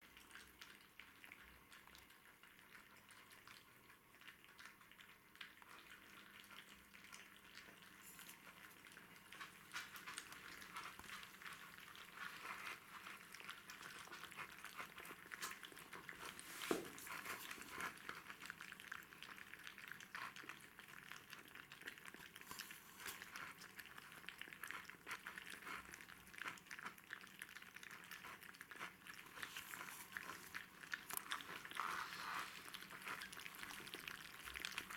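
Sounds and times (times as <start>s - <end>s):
puppies lapping and chewing: 0.0s - 34.9s.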